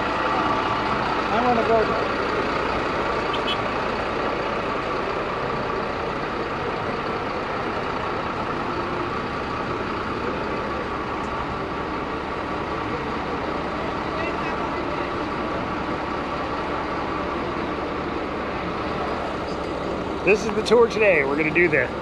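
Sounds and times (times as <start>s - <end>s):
large vehicle engine running: 0.0s - 22.0s.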